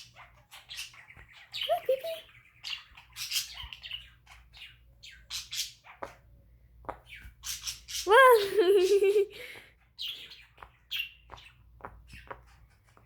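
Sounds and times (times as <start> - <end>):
bird chirping and squawking: 0.0 - 6.3, 6.9 - 13.0.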